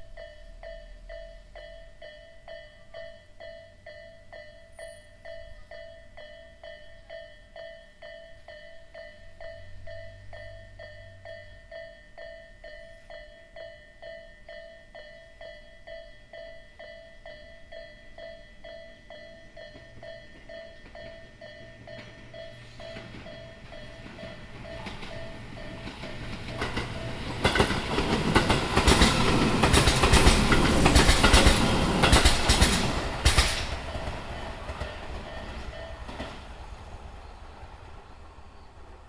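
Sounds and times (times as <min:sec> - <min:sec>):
level crossing alarm ringing: 0:00.0 - 0:36.3
approaching train noise: 0:00.0 - 0:39.0.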